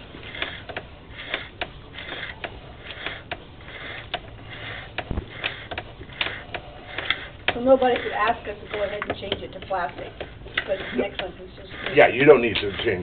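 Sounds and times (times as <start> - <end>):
camera head scraping in pipe: 0.0 - 13.0
cable clicks: 0.2 - 13.0.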